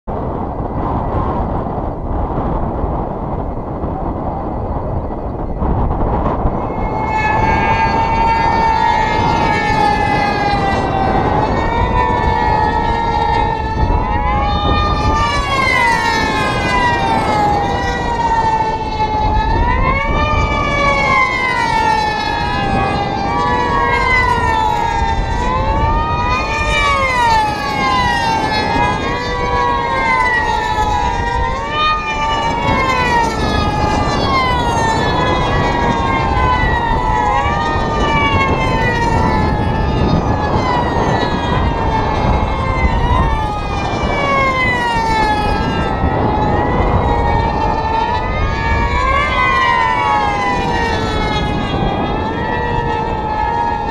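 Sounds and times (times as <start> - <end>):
model airplane engines whining: 0.0 - 53.9.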